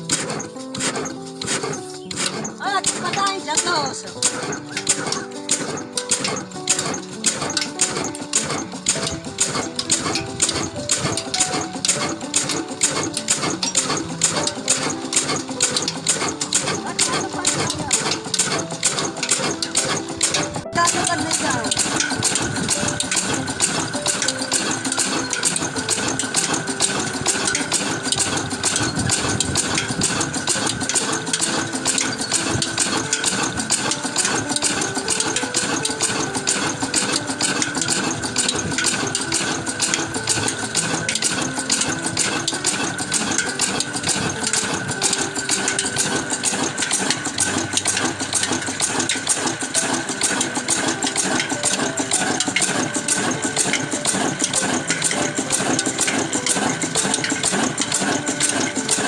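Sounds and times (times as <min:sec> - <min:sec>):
water pump engine knocking: 0:00.0 - 0:59.0.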